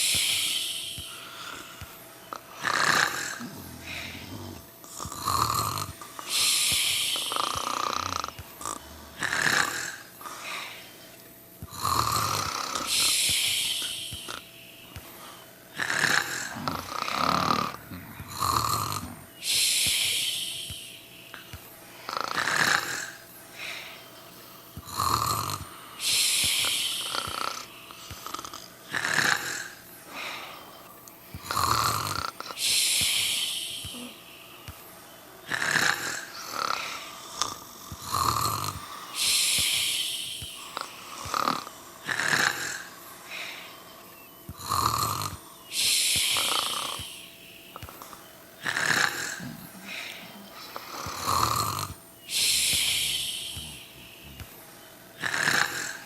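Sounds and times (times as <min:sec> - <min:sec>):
people snoring heavily: 0:00.0 - 0:34.8, 0:35.4 - 0:43.9, 0:44.5 - 0:56.0.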